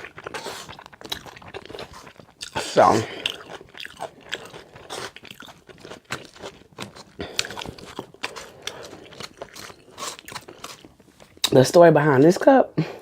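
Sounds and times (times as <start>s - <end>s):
person chewing crisp salad: 0.0s - 11.6s.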